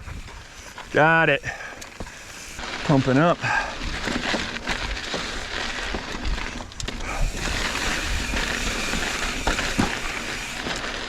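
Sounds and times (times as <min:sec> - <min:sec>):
bike tyre and frame rattle: 0:00.0 - 0:11.0.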